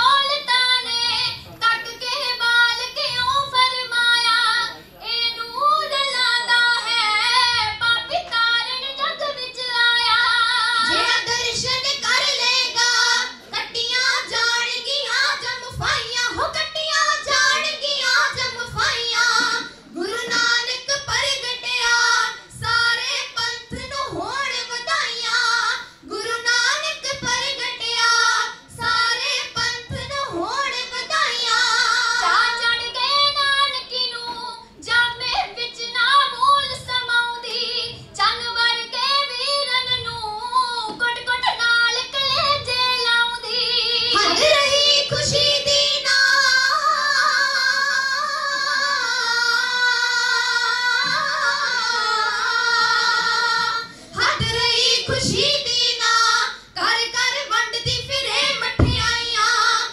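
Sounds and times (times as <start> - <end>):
girls singing unaccompanied: 0.0 - 59.9.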